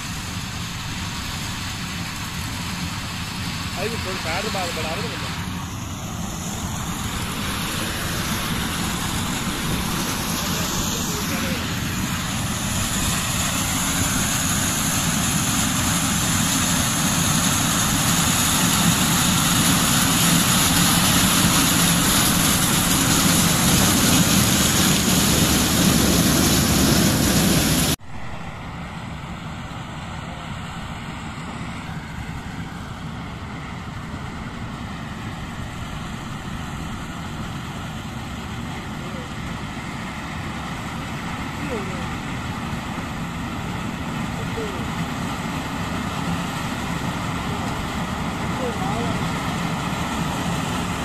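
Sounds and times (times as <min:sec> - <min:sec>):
corn harvester running: 0:00.0 - 0:51.0.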